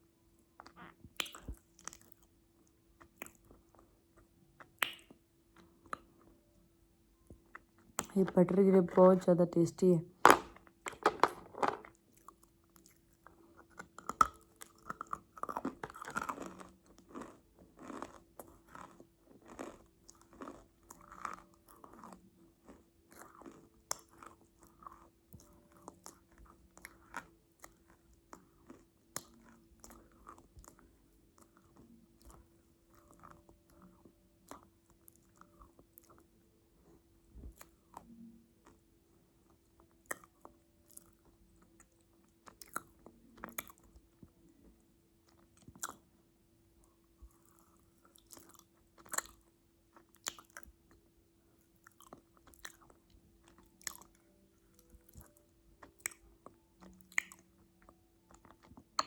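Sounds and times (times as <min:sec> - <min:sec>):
faint steady hum: 0:00.0 - 0:59.0
chewing crunchy food: 0:00.4 - 0:06.4, 0:11.6 - 0:59.0.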